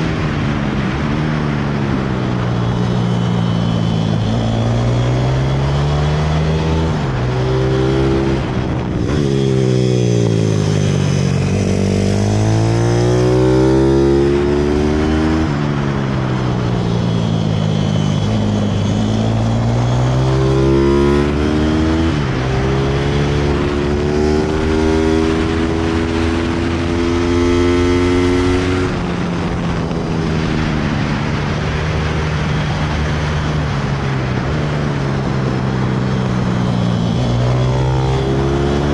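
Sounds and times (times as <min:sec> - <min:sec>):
motorbike engine revving: 0:02.7 - 0:15.9, 0:16.6 - 0:34.5, 0:35.2 - 0:38.9.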